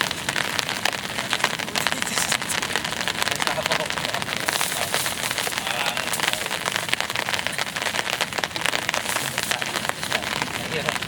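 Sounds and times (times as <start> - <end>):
heavy rain on hard surface: 0.0 - 11.0.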